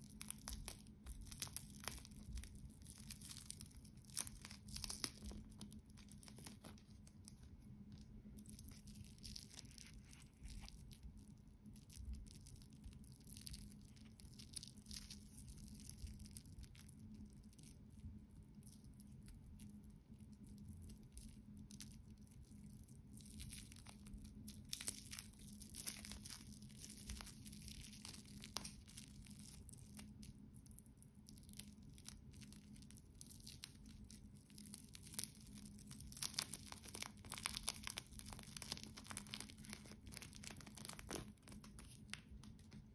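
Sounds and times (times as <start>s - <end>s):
plastic film crinkling and tearing: 0.0s - 17.8s, 20.6s - 30.5s, 31.2s - 42.9s.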